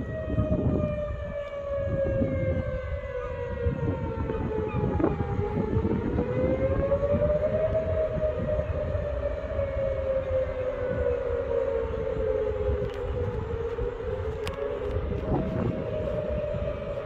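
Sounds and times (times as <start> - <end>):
tornado warning siren wailing: 0.0 - 17.0.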